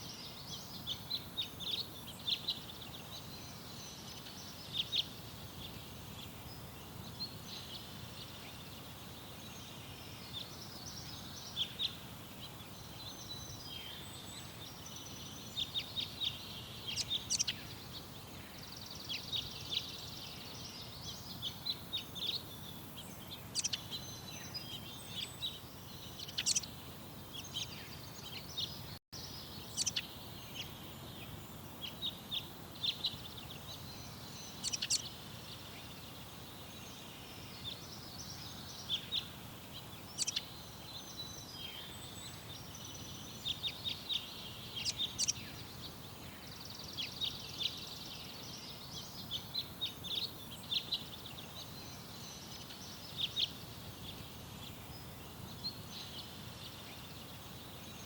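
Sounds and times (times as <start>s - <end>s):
low background noise: 0.0s - 58.0s
songbirds chirping: 0.0s - 58.0s.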